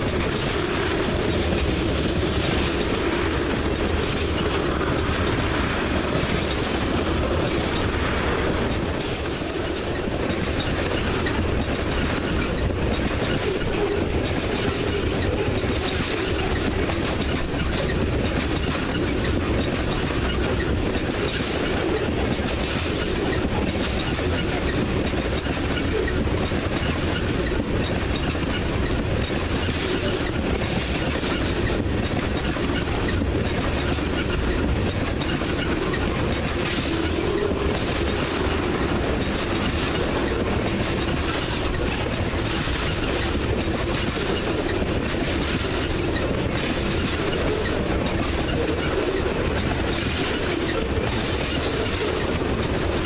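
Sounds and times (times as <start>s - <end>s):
freight train cars rolling past: 0.0s - 53.0s
steel wheels on rails: 0.0s - 53.0s.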